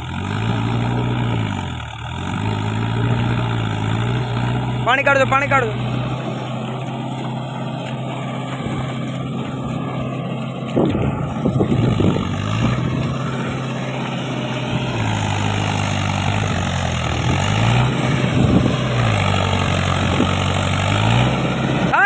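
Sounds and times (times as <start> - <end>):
diesel tractor engine under load: 0.0 - 22.0.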